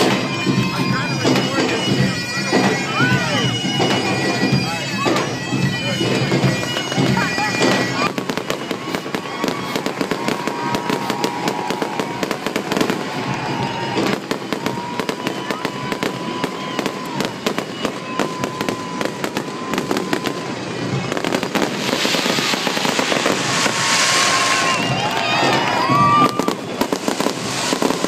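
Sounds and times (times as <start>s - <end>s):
bagpipe melody: 0.0s - 28.0s
fireworks crackling: 0.0s - 28.0s.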